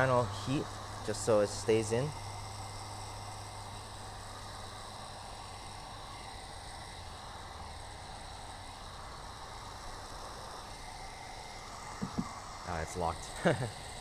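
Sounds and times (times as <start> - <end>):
heat gun blowing: 0.0 - 14.0.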